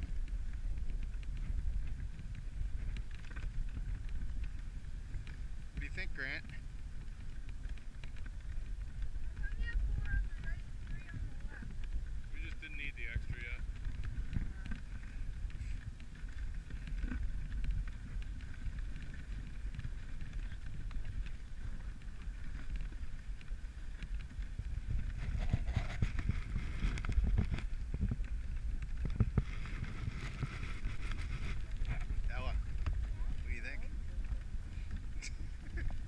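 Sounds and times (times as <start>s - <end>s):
sled rumble and hiss on snow: 0.0s - 36.0s.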